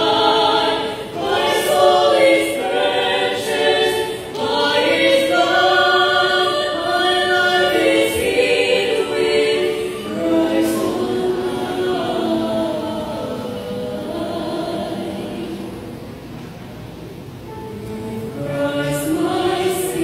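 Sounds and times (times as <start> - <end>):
vocal ensemble singing in harmony: 0.0 - 16.4, 17.5 - 20.0.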